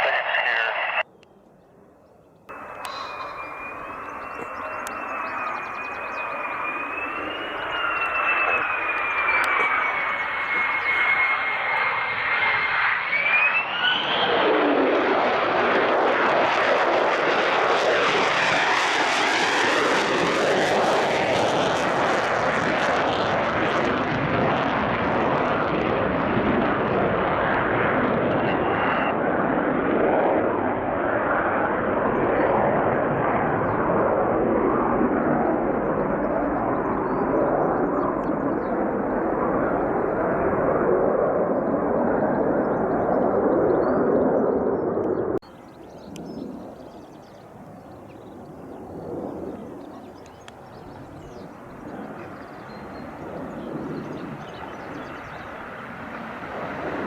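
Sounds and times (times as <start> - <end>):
loud jet roar: 0.0 - 1.1, 2.5 - 57.0
jet turbine whine: 0.0 - 57.0.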